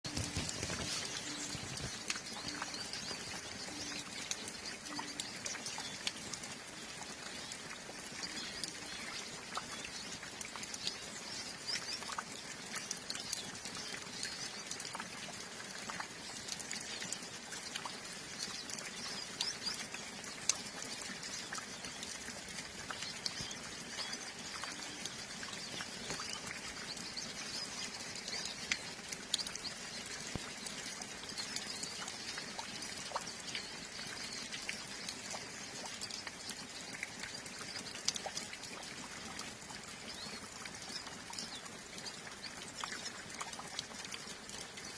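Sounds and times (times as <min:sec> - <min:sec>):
flock of birds chirping: 0:00.0 - 0:44.9
steady rain with drips: 0:00.0 - 0:44.9.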